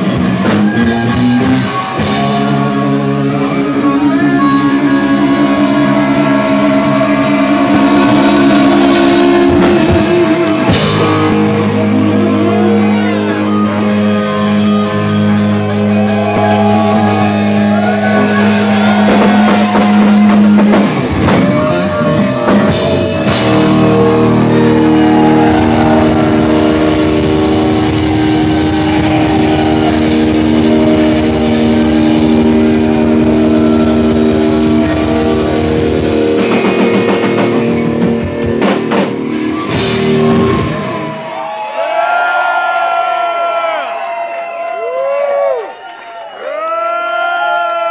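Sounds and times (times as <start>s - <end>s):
rock band playing loud: 0.0s - 41.6s.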